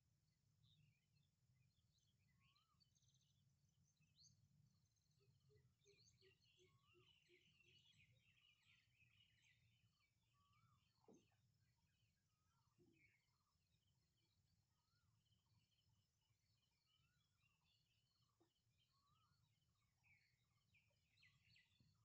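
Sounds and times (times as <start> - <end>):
low evenly spaced bird notes: 0.6 - 22.0
birds chirping: 2.0 - 22.0.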